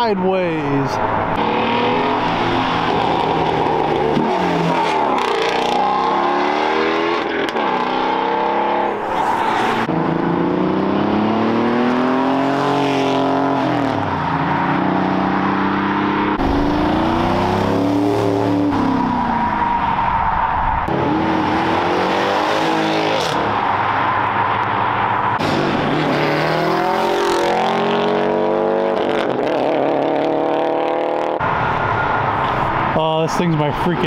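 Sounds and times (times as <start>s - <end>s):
cars accelerating hard: 1.1s - 33.0s.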